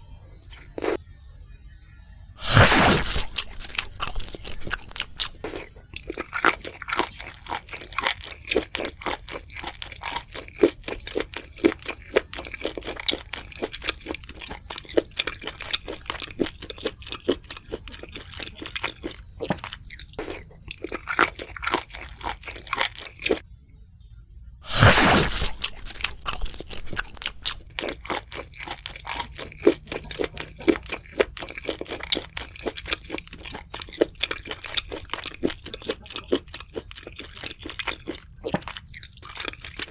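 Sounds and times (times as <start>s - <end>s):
crunching and chewing food: 0.0s - 1.2s, 2.3s - 39.9s.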